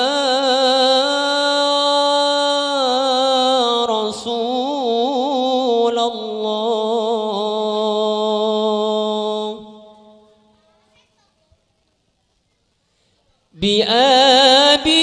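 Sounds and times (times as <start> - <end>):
person chanting ornamented melody: 0.0 - 10.7, 13.6 - 15.0.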